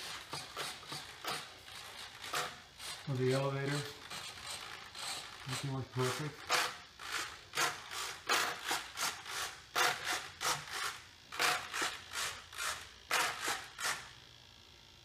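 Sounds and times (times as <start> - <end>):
servos whirring: 0.0 - 14.3.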